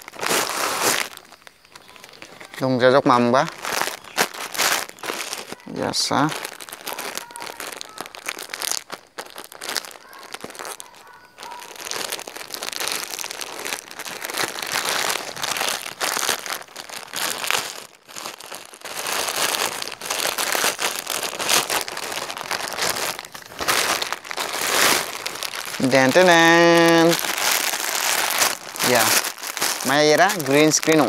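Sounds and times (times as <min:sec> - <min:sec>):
plastic bag crinkling: 0:00.0 - 0:31.0.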